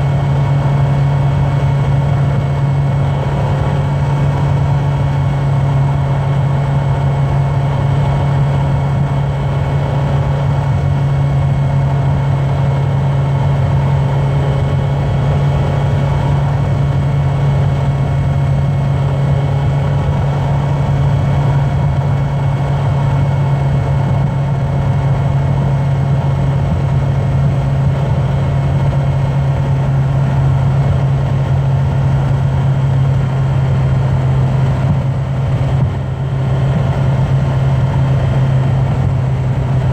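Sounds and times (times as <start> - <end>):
car engine and tyres droning: 0.0 - 39.9.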